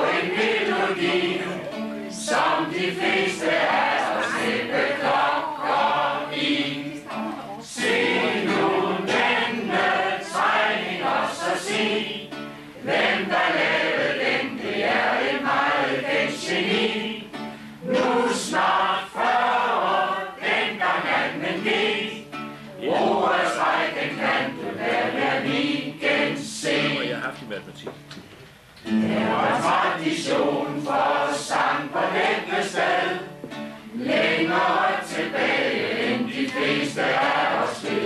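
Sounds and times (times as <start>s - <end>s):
group singing in unison: 0.0s - 27.2s, 28.8s - 38.0s.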